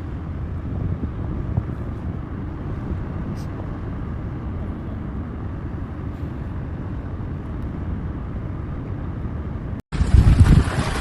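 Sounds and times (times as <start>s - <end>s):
car road rumble: 0.0s - 11.0s
wind buffeting microphone: 0.0s - 11.0s.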